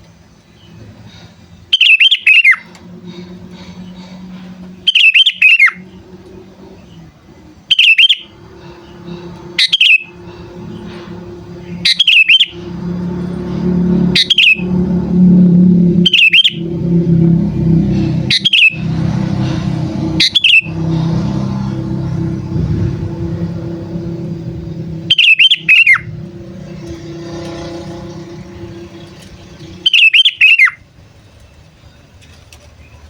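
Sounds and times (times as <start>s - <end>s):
low steady hum: 0.0s - 29.9s
bulbul calling: 1.1s - 7.1s, 7.7s - 13.2s, 13.8s - 30.8s.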